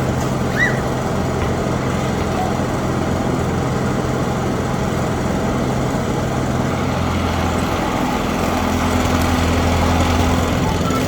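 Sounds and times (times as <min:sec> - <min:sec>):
lawnmower engine running: 0:00.0 - 0:11.0.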